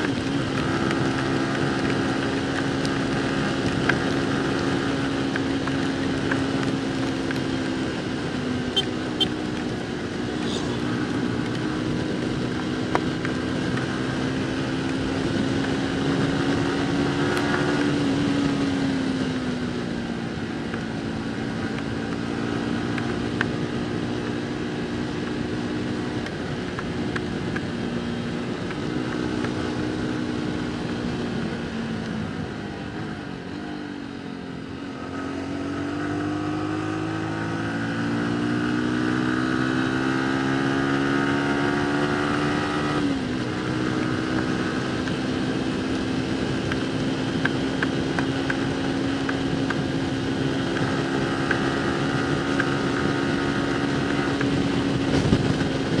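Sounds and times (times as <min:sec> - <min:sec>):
motorcycle engine running: 0:00.0 - 0:56.0
road and wind noise: 0:00.0 - 0:56.0.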